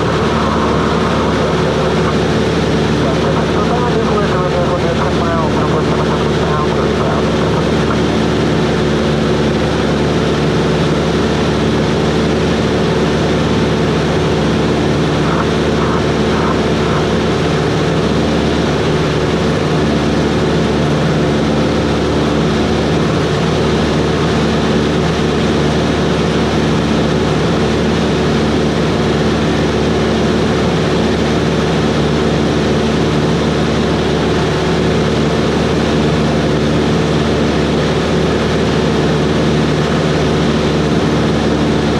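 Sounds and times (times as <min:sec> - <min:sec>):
propeller plane engine running: 0:00.0 - 0:41.9.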